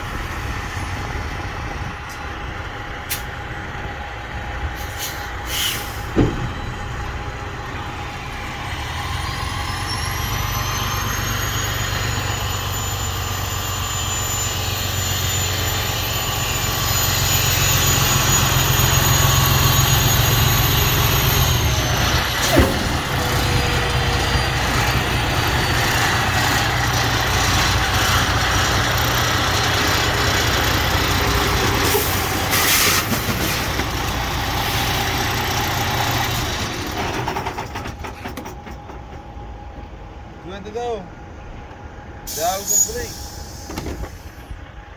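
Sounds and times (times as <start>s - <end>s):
truck diesel engine rumble: 0.0s - 44.9s.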